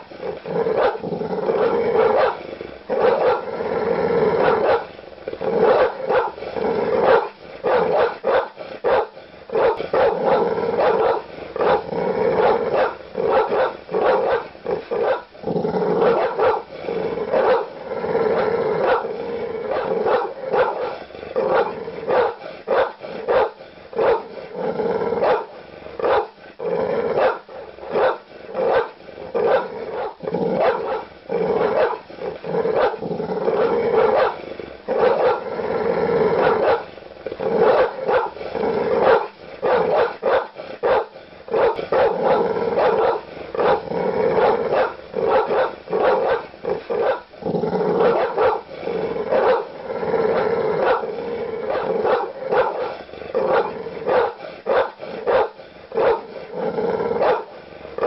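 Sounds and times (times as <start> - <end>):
large dog barking: 0.0 - 3.6, 4.2 - 26.4, 27.0 - 35.6, 36.2 - 56.4, 57.0 - 58.0
dog growling: 0.0 - 58.0.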